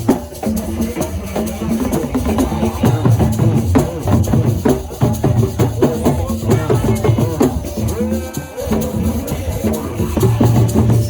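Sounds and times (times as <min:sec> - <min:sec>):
fast drums and percussion: 0:00.0 - 0:11.0.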